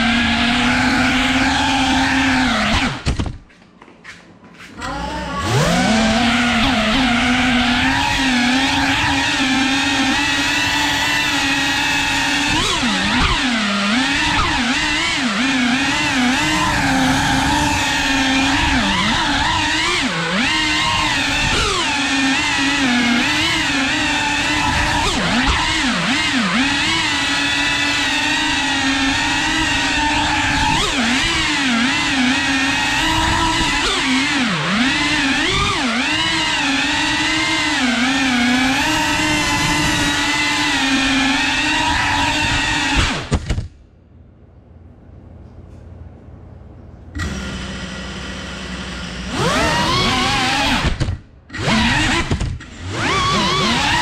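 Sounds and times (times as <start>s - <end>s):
drone propellers whining: 0.0s - 3.4s, 4.7s - 43.7s, 47.1s - 54.0s.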